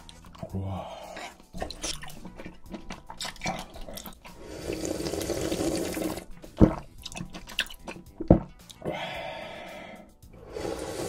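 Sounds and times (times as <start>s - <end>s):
person slurping broth: 0.3s - 11.0s.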